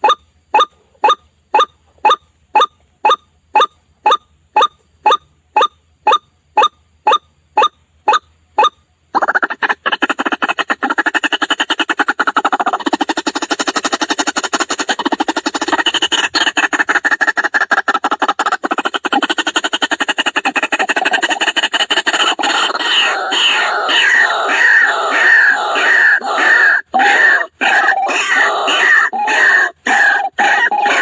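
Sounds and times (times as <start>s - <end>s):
waterhen calling: 0.0s - 6.2s, 8.0s - 31.0s.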